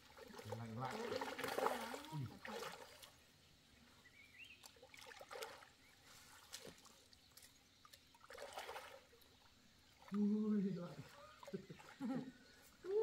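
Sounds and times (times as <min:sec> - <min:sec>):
pond water sloshing and trickling: 0:00.0 - 0:13.0
soft water splashes: 0:00.0 - 0:13.0.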